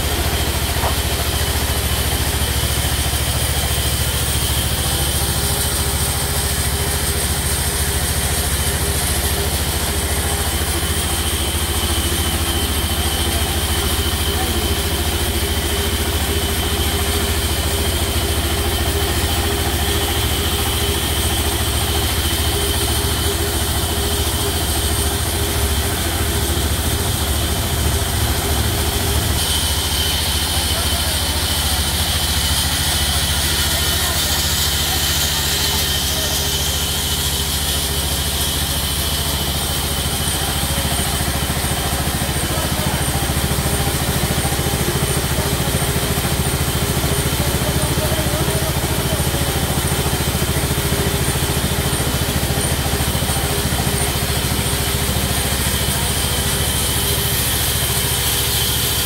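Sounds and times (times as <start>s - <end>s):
band saw droning with high whine: 0.0s - 59.0s.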